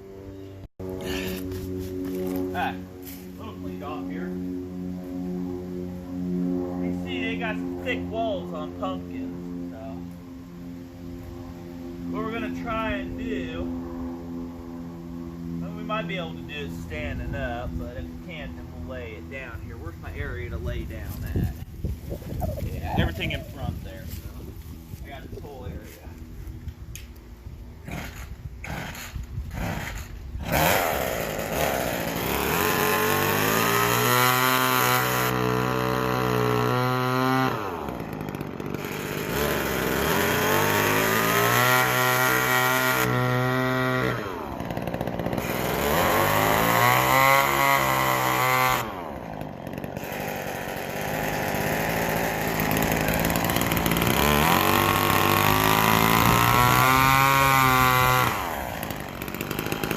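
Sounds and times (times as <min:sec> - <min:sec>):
chainsaw revving: 0:00.8 - 0:10.2, 0:11.8 - 0:21.6, 0:22.7 - 0:26.2, 0:27.8 - 0:59.9.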